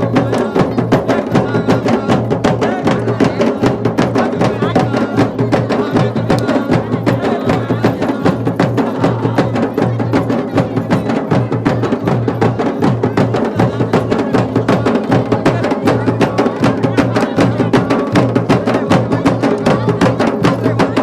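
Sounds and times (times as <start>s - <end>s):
drums beating fast rhythm: 0.0s - 21.0s.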